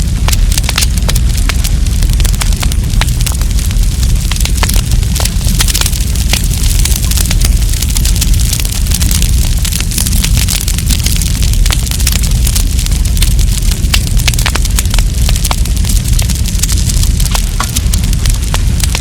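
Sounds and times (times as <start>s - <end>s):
campfire crackling and popping: 0.0s - 19.0s
low fire rumble: 0.0s - 19.0s.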